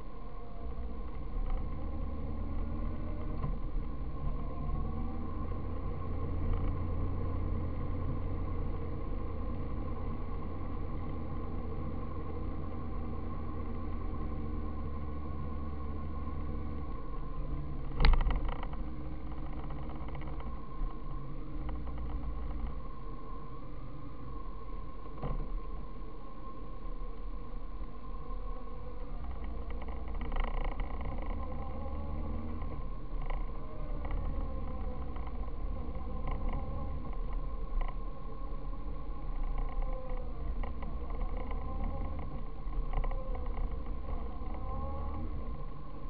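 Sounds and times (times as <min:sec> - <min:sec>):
faint whine: 0:00.0 - 0:46.0
road and wind noise: 0:00.0 - 0:46.0.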